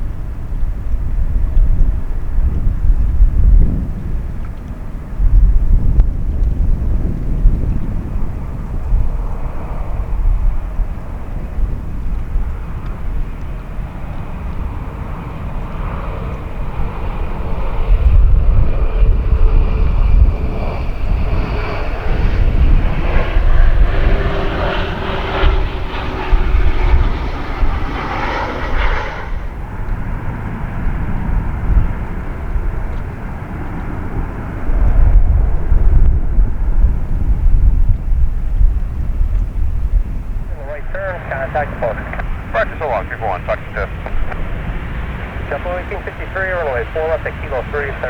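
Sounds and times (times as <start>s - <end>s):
jet airliner engines roaring: 0.0s - 48.0s.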